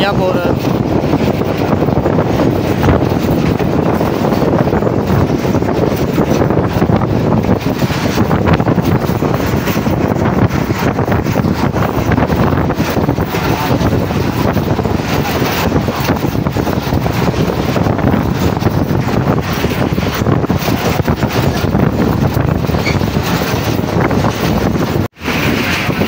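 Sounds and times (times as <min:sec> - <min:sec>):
train running at speed: 0:00.0 - 0:26.0
wind buffeting microphone: 0:00.0 - 0:26.0.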